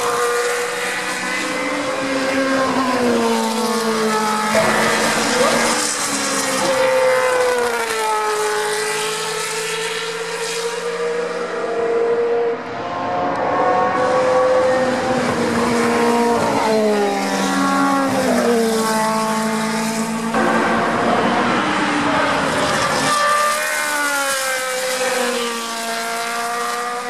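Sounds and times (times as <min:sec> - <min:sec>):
race cars passing at high revs: 0:00.0 - 0:27.0.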